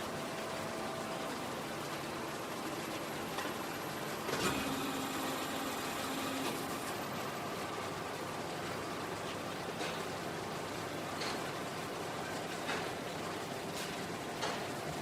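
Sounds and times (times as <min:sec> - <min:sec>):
faint humming tones: 0:00.0 - 0:12.2.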